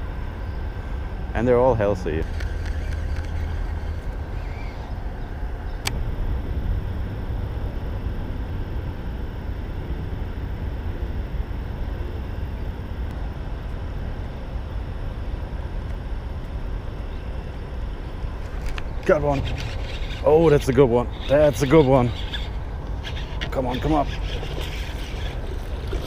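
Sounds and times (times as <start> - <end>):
highway traffic drone: 0.0 - 26.0.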